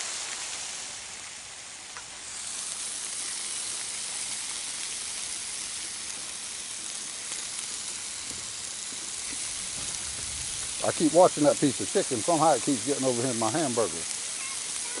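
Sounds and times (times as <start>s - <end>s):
food sizzling on a grill: 0.0s - 15.0s
steady rain: 0.0s - 15.0s.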